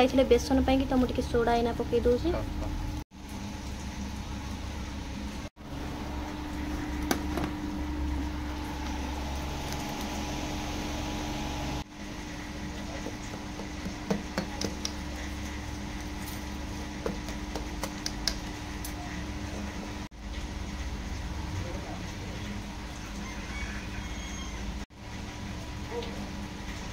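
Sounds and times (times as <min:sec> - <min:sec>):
steady background hum: 0:00.0 - 0:23.2.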